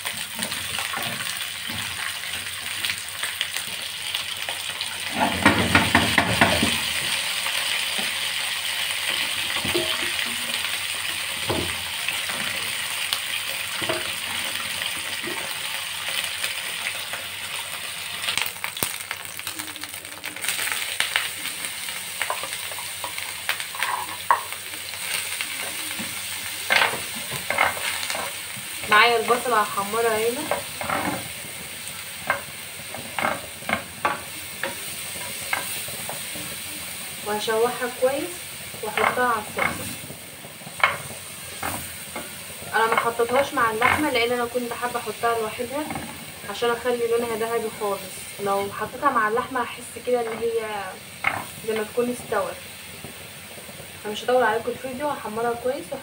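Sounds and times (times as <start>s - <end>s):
zucchini sizzling in oil: 0.0s - 56.0s.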